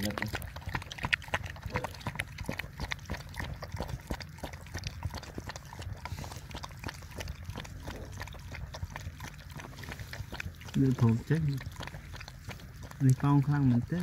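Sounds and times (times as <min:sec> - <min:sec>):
dog lapping from a dish: 0:00.0 - 0:14.0
low steady hum: 0:00.0 - 0:14.0.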